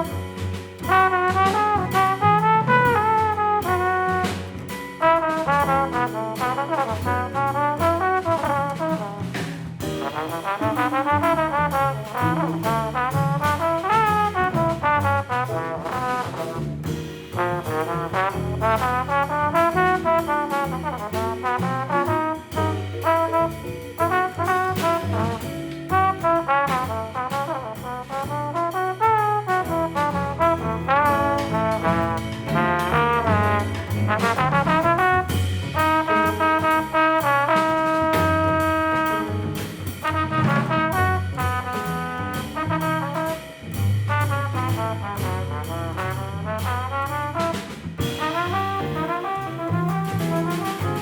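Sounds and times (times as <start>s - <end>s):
bass: 0.0s - 51.0s
drum kit: 0.0s - 51.0s
trombone melody: 0.0s - 51.0s.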